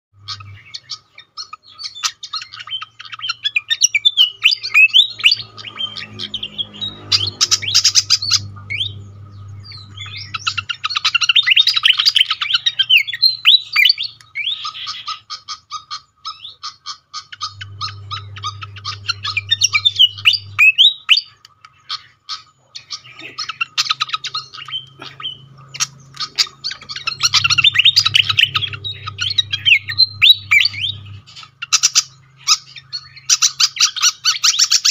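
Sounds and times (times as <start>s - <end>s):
bird chattering and whistling: 0.2s - 34.9s.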